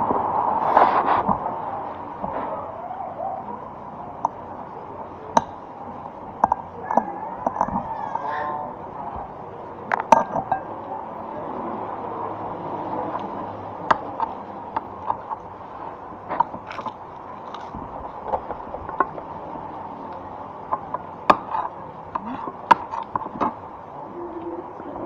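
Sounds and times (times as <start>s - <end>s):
background murmur: 0.0s - 25.0s.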